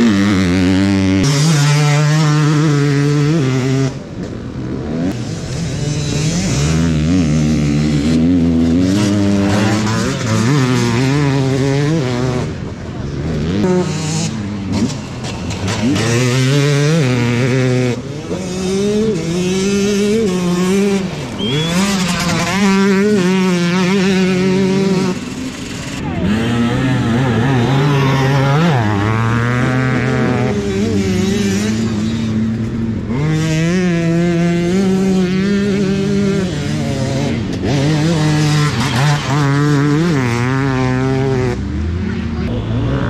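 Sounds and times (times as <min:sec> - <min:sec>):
dirt-bike engines revving: 0:00.0 - 0:43.0.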